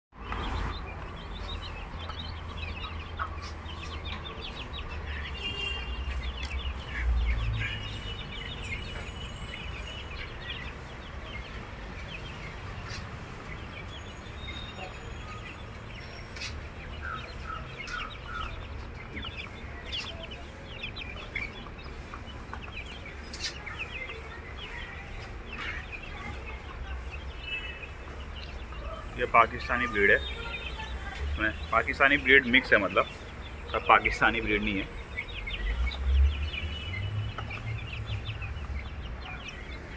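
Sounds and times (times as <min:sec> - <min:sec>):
chicks peeping: 0:00.2 - 0:39.9.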